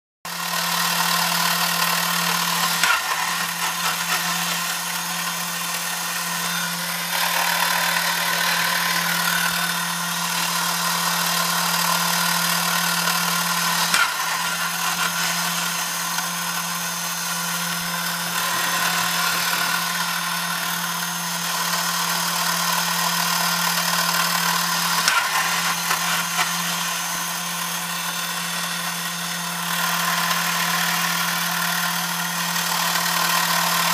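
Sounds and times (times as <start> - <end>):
toy motor whirring hum: 0.3 - 33.9.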